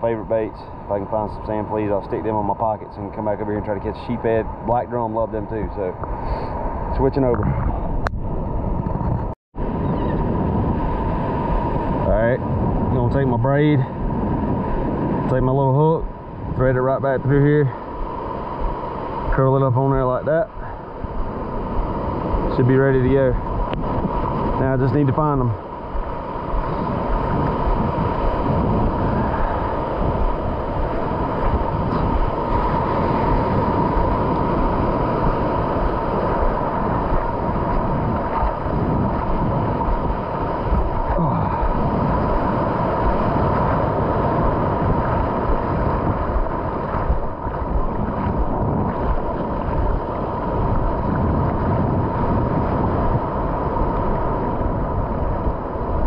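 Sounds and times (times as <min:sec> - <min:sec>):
ocean surf washing: 0:00.0 - 0:56.0
wind buffeting microphone: 0:00.0 - 0:56.0.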